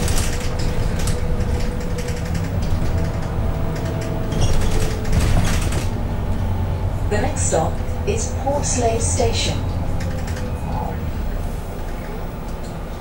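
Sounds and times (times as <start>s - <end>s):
bus body rattling and creaking: 0.0s - 13.0s
bus engine drone: 0.0s - 13.0s.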